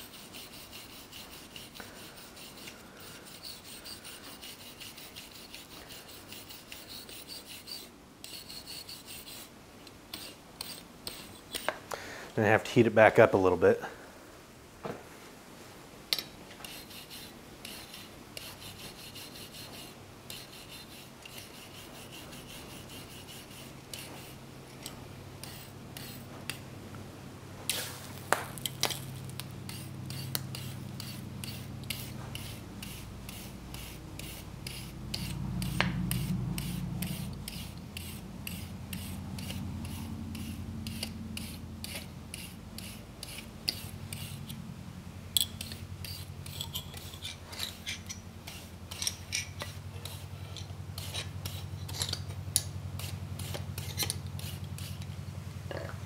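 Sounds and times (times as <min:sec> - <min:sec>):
wire brush rasping on steel: 0:00.0 - 0:09.5, 0:10.1 - 0:11.8, 0:16.6 - 0:26.7, 0:28.6 - 0:44.6, 0:45.4 - 0:52.3, 0:52.9 - 0:55.1.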